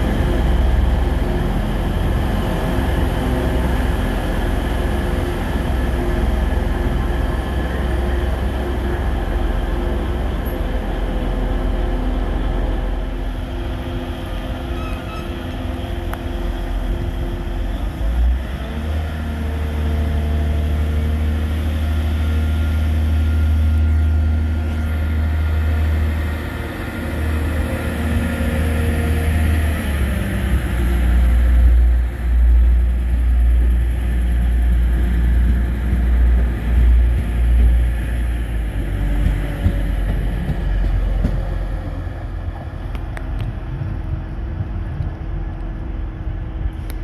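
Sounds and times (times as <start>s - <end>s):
deep engine hum: 0.0s - 47.0s
diesel train engines droning: 0.0s - 47.0s.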